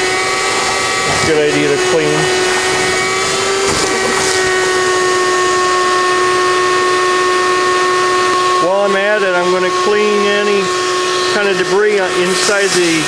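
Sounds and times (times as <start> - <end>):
hose sucking debris: 0.0 - 13.0
shop vac running: 0.0 - 13.0.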